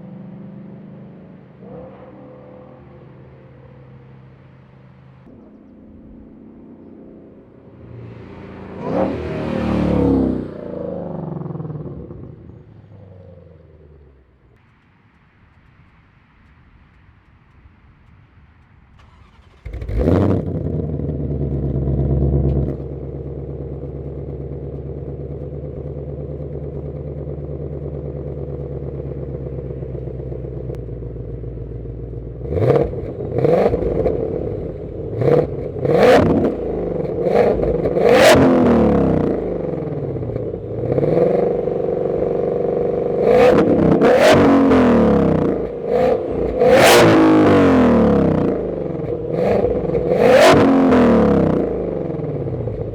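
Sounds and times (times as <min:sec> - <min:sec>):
car engine revving: 0:00.0 - 0:14.6, 0:19.0 - 0:52.9
car engine idling: 0:00.0 - 0:52.9.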